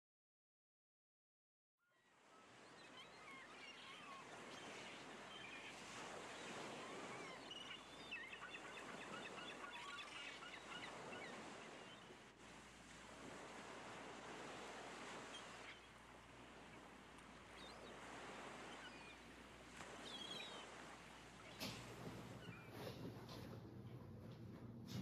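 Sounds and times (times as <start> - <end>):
birds chirping: 2.0 - 25.0.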